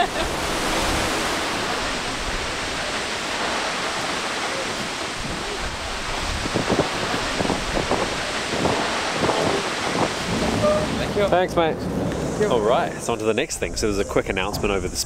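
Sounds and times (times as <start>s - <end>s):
waterfall roaring: 0.0s - 13.2s
wind buffeting microphone: 0.0s - 15.0s.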